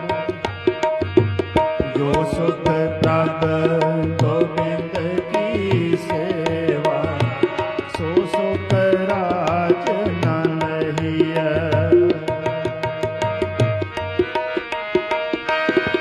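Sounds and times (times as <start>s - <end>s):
man singing ornamented line: 0.0s - 14.5s
harmoniums playing melody: 0.0s - 16.0s
tabla playing steady rhythm: 0.0s - 16.0s.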